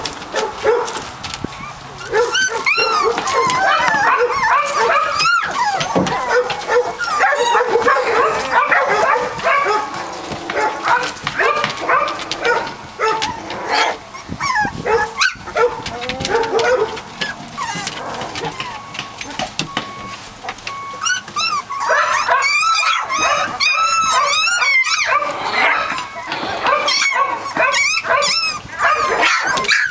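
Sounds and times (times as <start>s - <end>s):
puppies whining and yipping: 0.0s - 29.9s.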